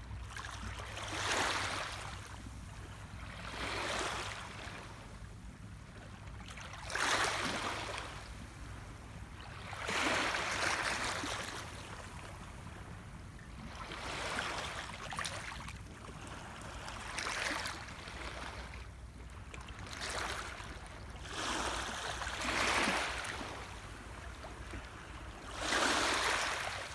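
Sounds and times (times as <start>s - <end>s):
small waves lapping at shore: 0.0s - 26.9s.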